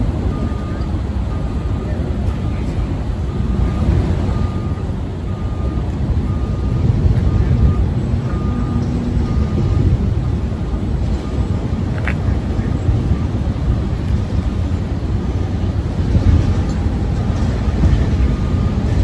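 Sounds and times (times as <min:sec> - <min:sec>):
heavy vehicle engine rumble: 0:00.0 - 0:19.0
backup alarm beeping: 0:00.1 - 0:19.0.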